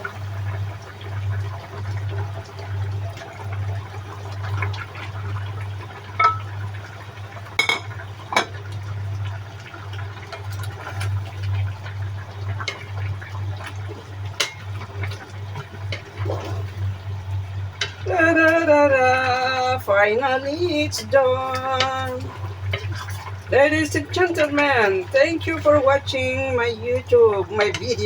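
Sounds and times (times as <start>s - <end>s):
liquid bubbling in a pot: 0.0s - 28.0s
steady low hum: 0.0s - 28.0s.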